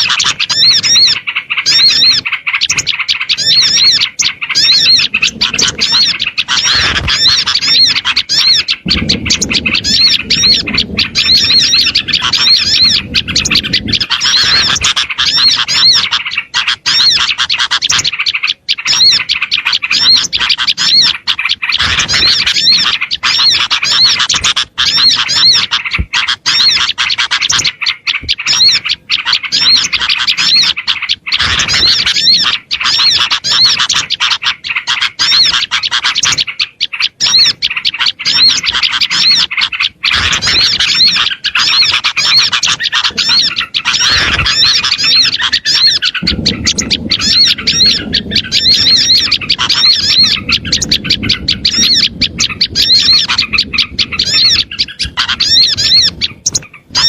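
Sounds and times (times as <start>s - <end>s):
small songbirds chattering: 0.0s - 57.0s.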